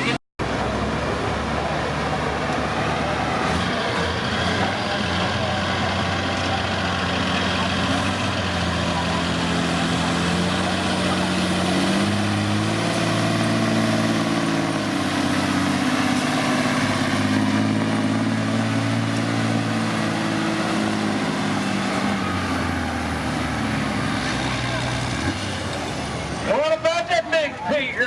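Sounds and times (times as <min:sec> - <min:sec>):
heavy vehicle engine under load: 0:00.0 - 0:27.9.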